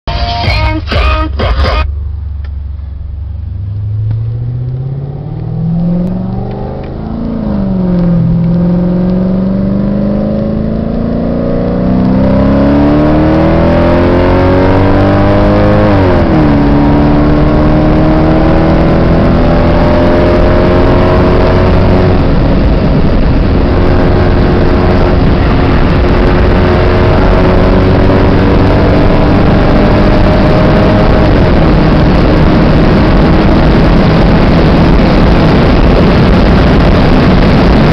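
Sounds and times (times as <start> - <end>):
car engine accelerating: 0.1 - 37.9
road and wind noise: 0.1 - 37.9.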